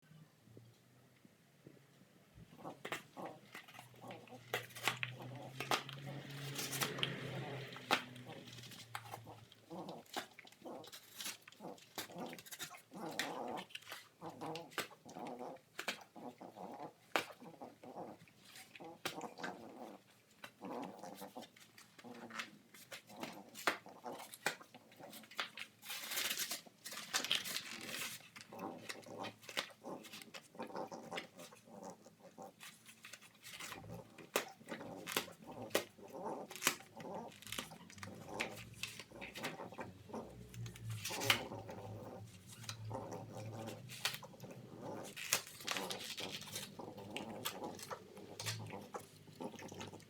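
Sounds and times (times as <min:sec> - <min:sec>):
puppy noises: 0:02.3 - 0:50.0
puppy chewing and ripping cardboard: 0:02.5 - 0:50.0.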